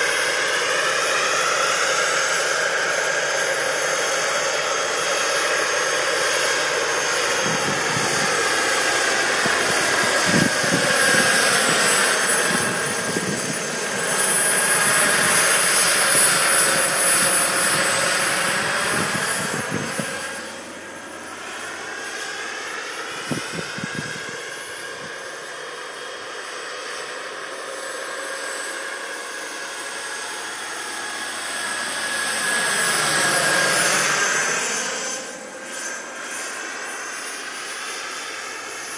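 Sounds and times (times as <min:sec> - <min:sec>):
model helicopter rotor whine: 0:00.0 - 0:38.9.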